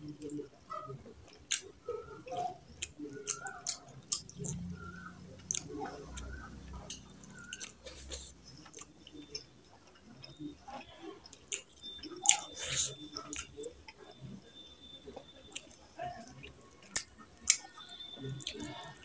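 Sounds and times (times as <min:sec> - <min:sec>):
wet chewing and mouth smacks: 0:00.2 - 0:14.4, 0:15.1 - 0:19.0.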